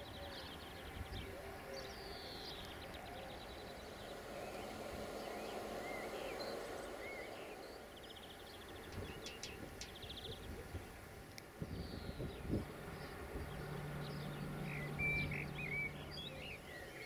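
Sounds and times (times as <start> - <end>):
outdoor background hum: 0.0 - 17.0
small birds chirping: 0.0 - 17.0.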